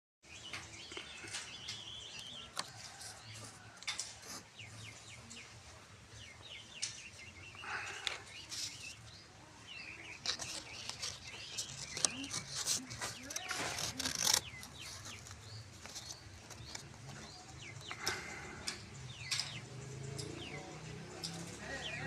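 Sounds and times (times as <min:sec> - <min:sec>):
birds chirping: 0:00.2 - 0:22.0.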